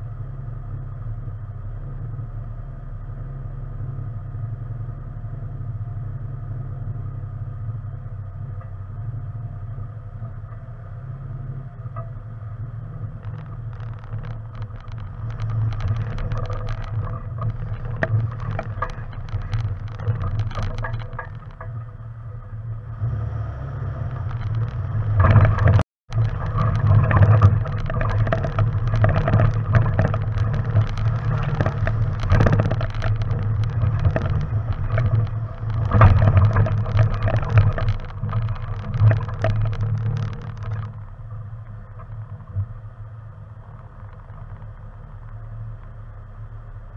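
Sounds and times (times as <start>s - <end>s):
vehicle engine humming: 0.0s - 46.9s
suspension rattles: 7.7s - 46.9s.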